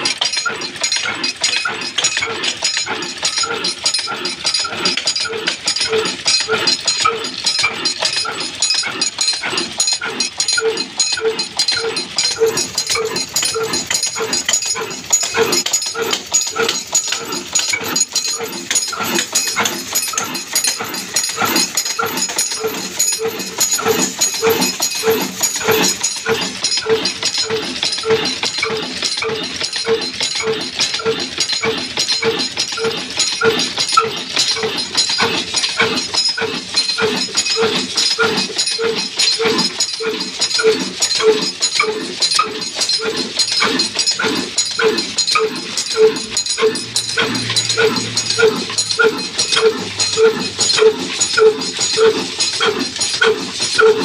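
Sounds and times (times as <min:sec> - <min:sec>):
diesel engine knocking steadily: 0:00.0 - 0:54.0.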